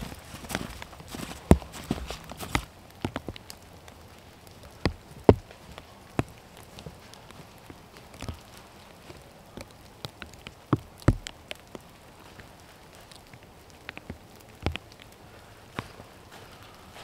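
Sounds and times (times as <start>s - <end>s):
raindrops dripping: 0.0s - 17.0s.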